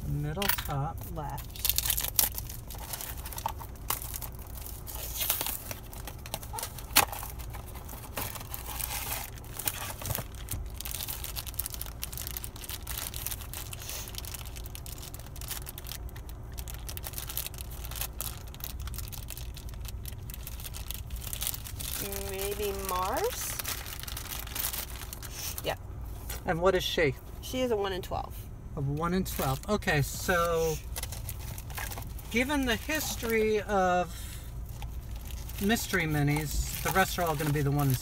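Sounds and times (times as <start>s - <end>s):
foil pouch crinkling and tearing: 1.4s - 25.7s, 30.3s - 33.7s, 34.6s - 38.0s.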